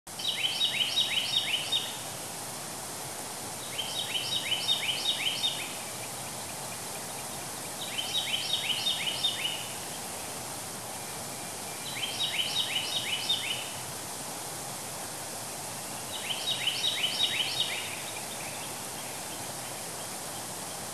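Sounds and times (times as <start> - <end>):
songbird singing: 0.1 - 2.2, 3.5 - 14.0, 15.3 - 20.9.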